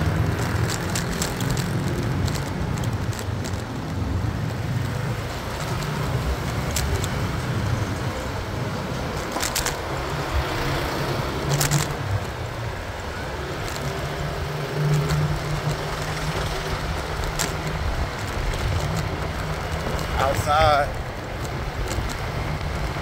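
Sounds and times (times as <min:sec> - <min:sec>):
road and traffic noise: 0:00.0 - 0:23.0.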